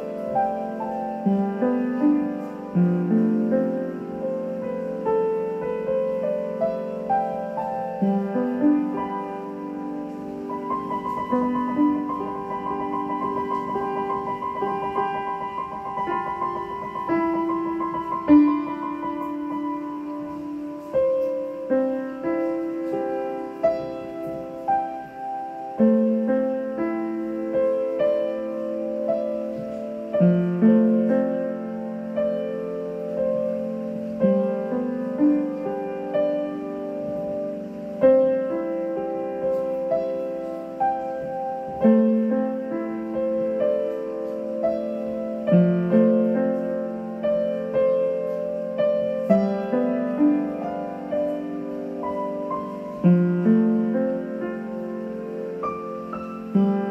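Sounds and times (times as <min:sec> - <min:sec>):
slow piano music: 0:00.0 - 0:56.9.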